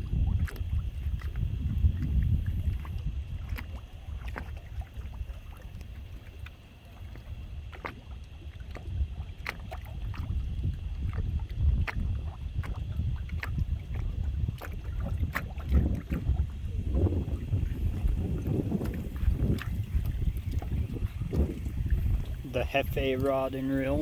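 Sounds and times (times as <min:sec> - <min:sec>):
wind buffeting microphone: 0:00.0 - 0:06.2, 0:07.1 - 0:24.0.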